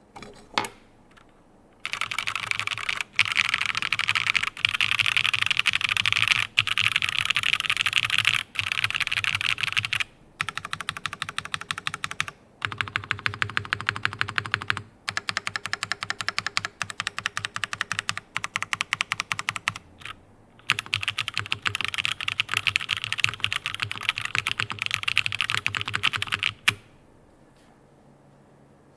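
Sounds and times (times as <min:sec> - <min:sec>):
mechanical keyboard typing: 0:01.8 - 0:26.8.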